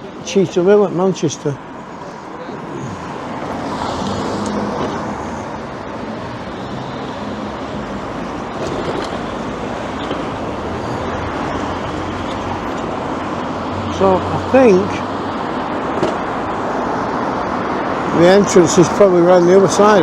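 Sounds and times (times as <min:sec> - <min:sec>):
road traffic passing: 0:00.0 - 0:20.0
low engine hum: 0:01.6 - 0:17.7.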